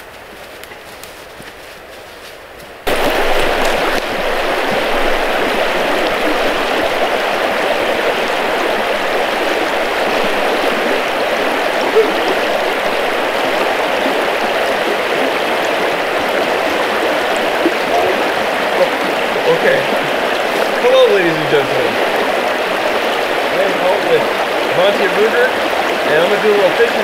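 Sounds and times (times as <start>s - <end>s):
river current rushing: 2.8s - 27.0s.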